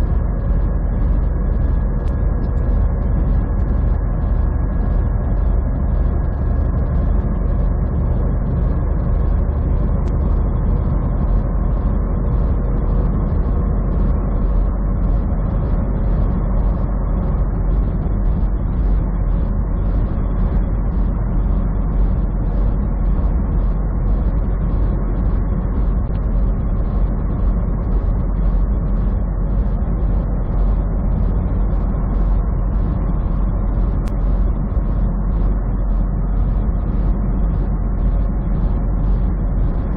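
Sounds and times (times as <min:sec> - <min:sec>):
truck engine and tyres droning: 0:00.0 - 0:39.9.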